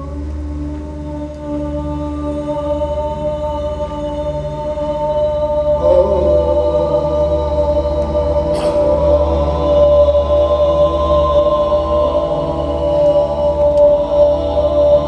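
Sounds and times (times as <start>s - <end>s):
chant-like droning tones: 0.0s - 15.0s
steady low hum: 0.0s - 15.0s.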